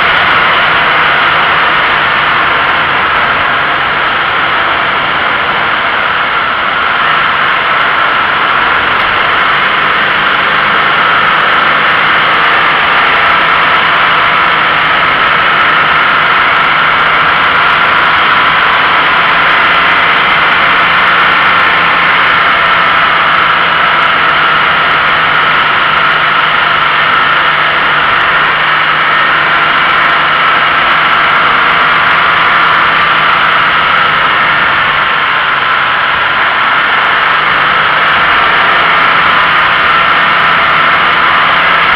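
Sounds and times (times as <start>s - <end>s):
car engine hum: 0.0s - 41.9s.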